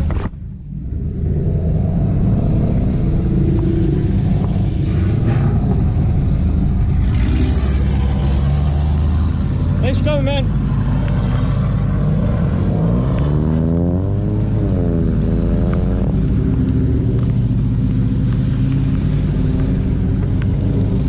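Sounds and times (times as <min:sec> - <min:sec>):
car engine revving: 0:00.4 - 0:21.0.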